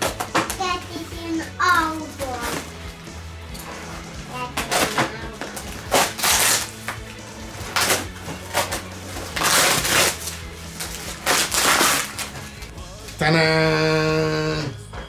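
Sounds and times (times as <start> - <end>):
cardboard box tearing: 0.0 - 12.7
packing crinkling: 0.0 - 13.2.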